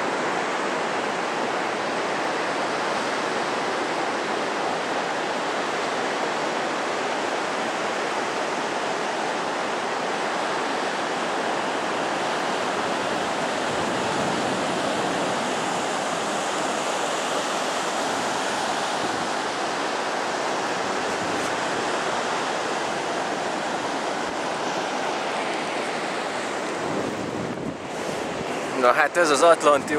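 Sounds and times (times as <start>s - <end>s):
surf washing up a beach: 0.0s - 29.9s.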